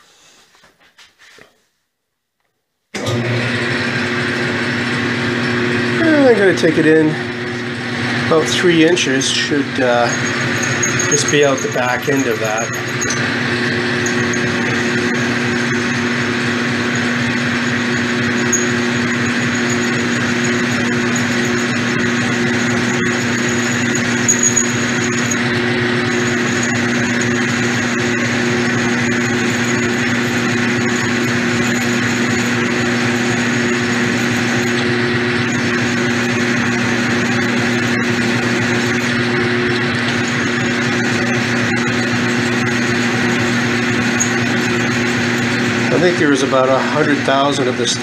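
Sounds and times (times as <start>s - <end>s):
drill bit whining: 3.0s - 48.0s
lathe running: 3.0s - 48.0s.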